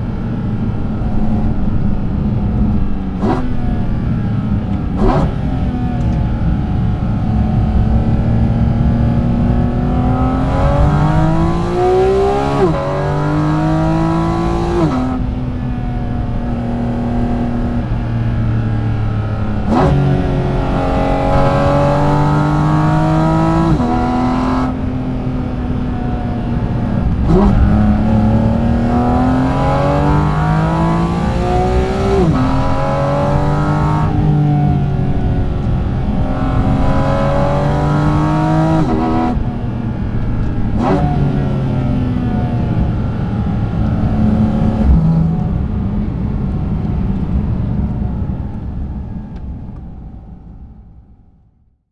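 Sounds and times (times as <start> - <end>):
car engine revving through gears: 2.6 - 45.6.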